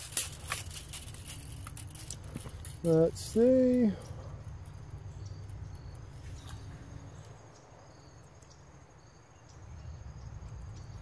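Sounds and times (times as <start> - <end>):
insects trilling and chirping: 0.0 - 11.0.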